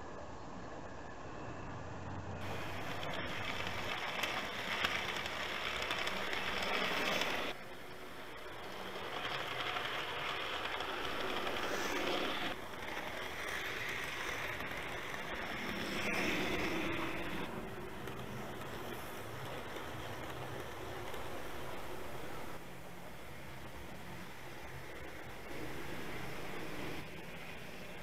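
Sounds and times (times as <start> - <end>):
model trains rattling and humming: 1.6 - 28.0.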